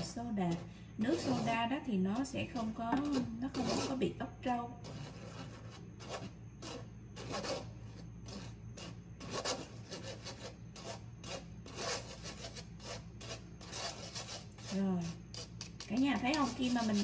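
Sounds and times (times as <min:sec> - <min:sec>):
spoon scraping through wire sieve: 0:00.0 - 0:04.2, 0:04.8 - 0:17.0.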